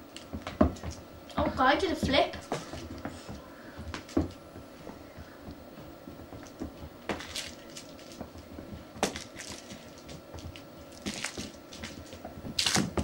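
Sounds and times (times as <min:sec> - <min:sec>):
kittens scrambling on carpet: 0:02.4 - 0:13.0.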